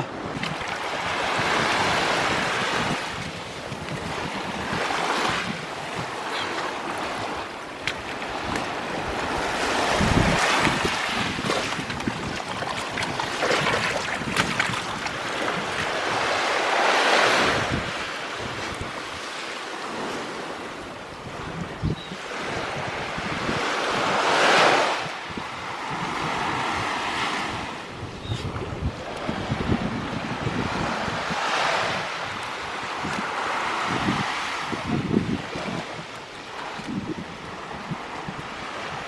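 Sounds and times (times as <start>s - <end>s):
wind buffeting microphone: 0.0s - 16.6s, 17.3s - 19.2s, 20.0s - 39.0s
small waves washing onto beach: 0.0s - 39.0s.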